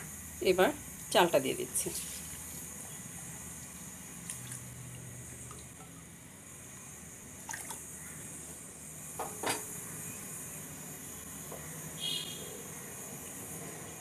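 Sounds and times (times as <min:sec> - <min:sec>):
water boiling in pot: 0:00.0 - 0:14.0.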